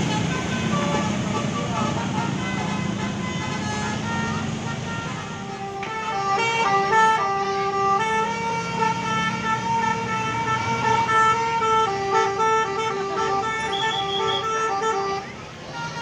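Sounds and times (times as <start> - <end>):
bus musical horn melody: 0.0 - 16.0.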